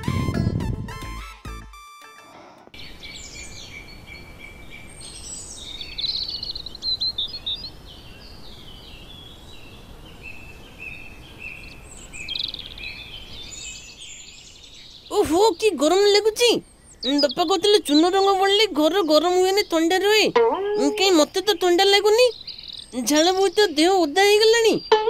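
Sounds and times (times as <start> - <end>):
small birds chirping and trilling: 2.8 - 25.0
steady outdoor hiss: 2.8 - 25.0.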